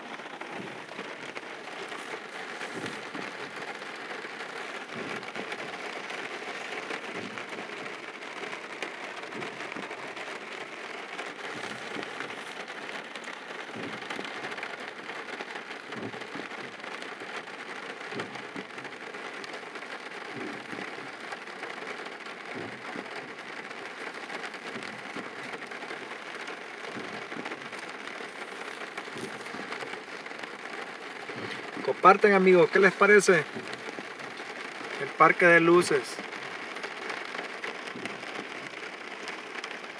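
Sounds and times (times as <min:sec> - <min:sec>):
rain on a car windshield: 0:00.0 - 0:39.9.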